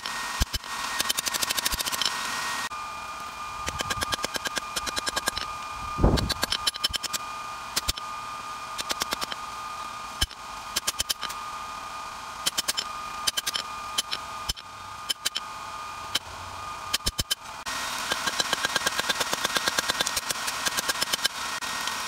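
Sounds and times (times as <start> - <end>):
steady high hum: 0.0 - 22.0.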